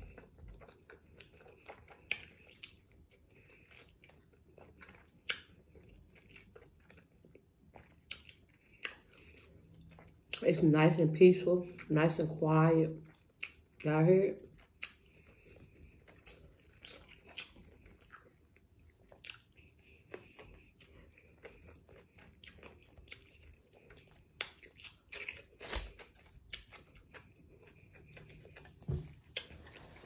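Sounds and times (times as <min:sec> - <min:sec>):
person chewing with wet smacks: 0:00.0 - 0:10.6, 0:11.6 - 0:12.4, 0:13.0 - 0:30.0.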